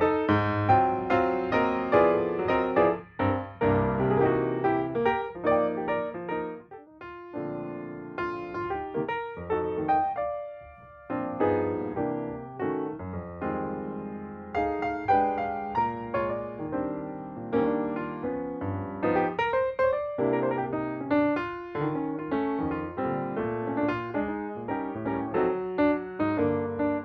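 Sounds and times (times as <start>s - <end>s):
gentle piano tune: 0.0s - 27.0s.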